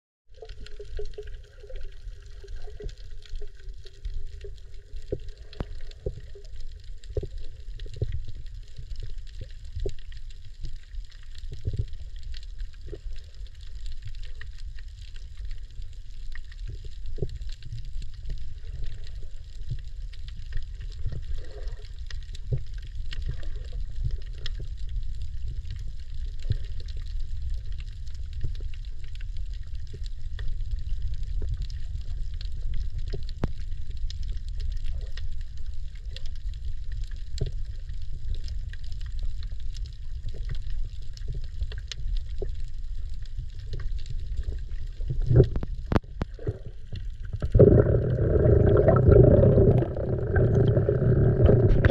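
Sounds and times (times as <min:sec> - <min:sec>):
faint underwater clicks: 0:00.3 - 0:51.9
underwater low rumble: 0:00.3 - 0:51.9
water surges: 0:00.3 - 0:51.9.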